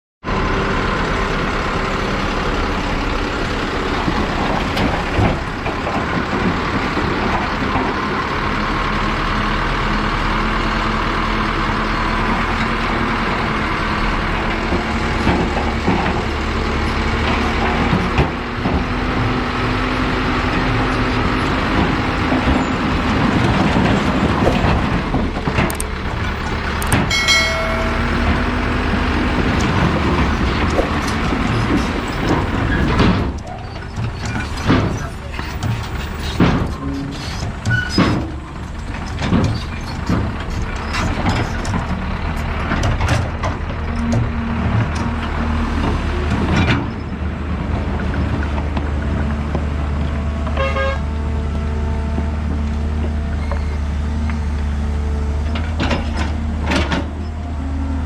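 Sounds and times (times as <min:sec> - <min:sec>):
heavy diesel machinery running: 0:00.2 - 0:58.0.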